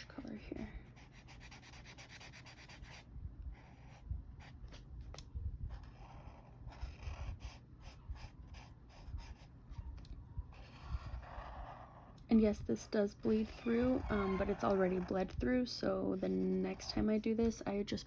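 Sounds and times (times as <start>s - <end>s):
pen scratching on paper: 0.0s - 4.8s, 5.7s - 9.5s, 10.5s - 15.5s, 16.1s - 17.6s.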